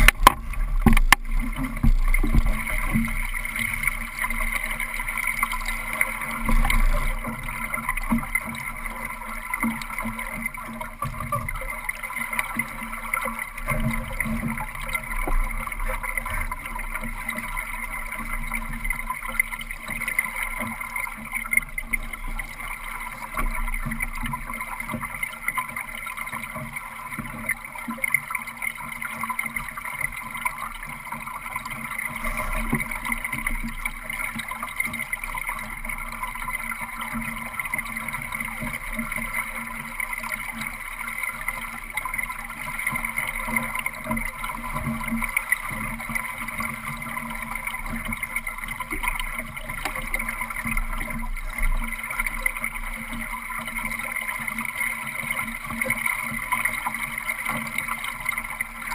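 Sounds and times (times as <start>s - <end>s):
water rushing along boat hull: 0.0s - 58.9s
water splashes: 0.0s - 58.9s.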